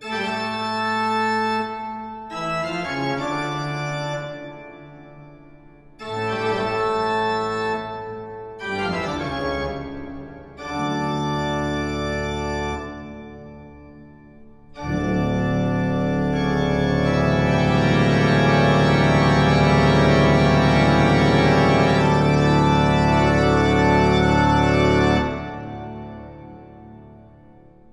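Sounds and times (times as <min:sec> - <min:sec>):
organ chords: 0:00.0 - 0:27.9.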